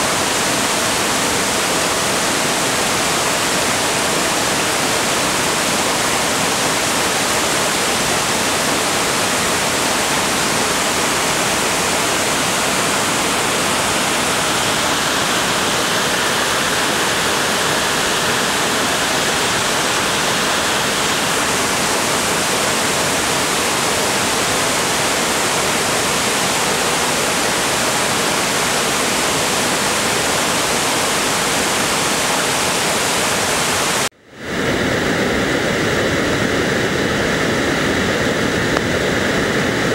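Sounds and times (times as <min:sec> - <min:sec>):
waterfall torrent rushing: 0:00.0 - 0:39.9.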